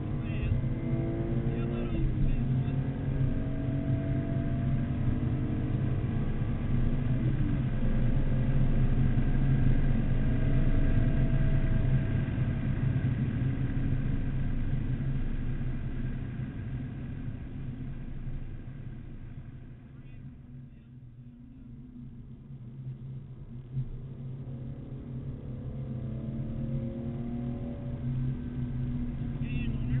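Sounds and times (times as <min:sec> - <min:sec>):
car engine accelerating hard: 0:00.0 - 0:20.5, 0:21.5 - 0:30.0
road and wind noise: 0:00.0 - 0:30.0.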